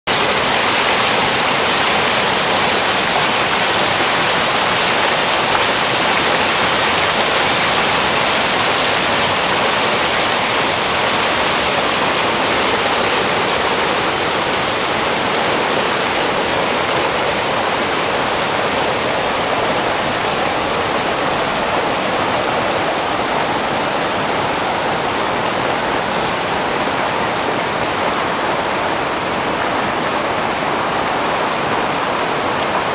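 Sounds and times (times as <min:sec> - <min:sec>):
river rapids rushing: 0:00.1 - 0:32.9.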